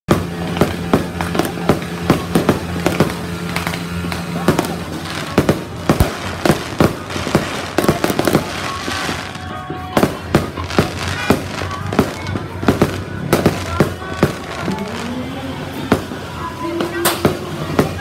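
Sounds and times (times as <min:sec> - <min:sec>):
fireworks banging: 0:00.1 - 0:18.0
fireworks crackling: 0:00.1 - 0:18.0.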